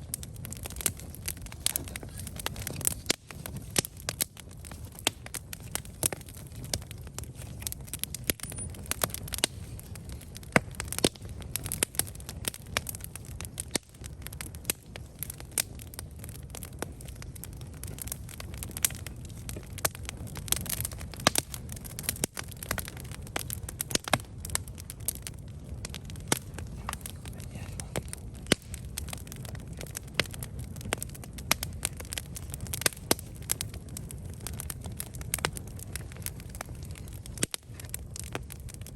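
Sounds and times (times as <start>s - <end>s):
flames rumbling: 0.0s - 38.9s
wood crackling and popping: 0.0s - 38.9s.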